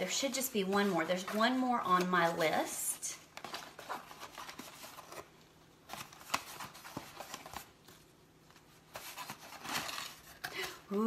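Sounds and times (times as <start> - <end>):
ribbon and box rustling: 0.0 - 11.0.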